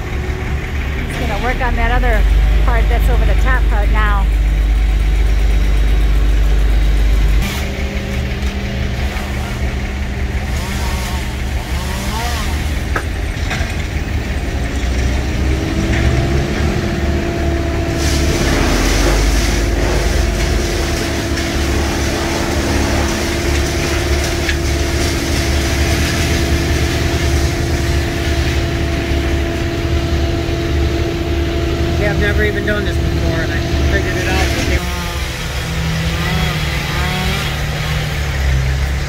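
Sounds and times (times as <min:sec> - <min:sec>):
steady whine: 0:00.0 - 0:11.8, 0:16.4 - 0:36.2
truck engine running: 0:00.0 - 0:39.0.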